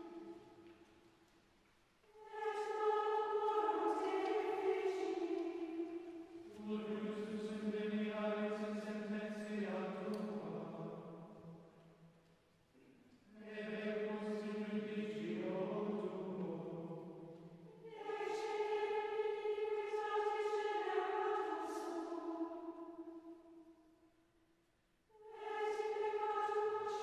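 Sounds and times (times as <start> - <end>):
choir chanting in unison: 0.0 - 0.4, 2.1 - 11.5, 13.4 - 23.6, 25.1 - 27.0.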